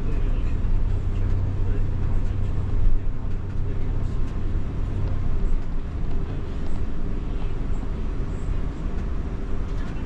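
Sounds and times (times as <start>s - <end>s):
bus engine hum: 0.0s - 10.0s.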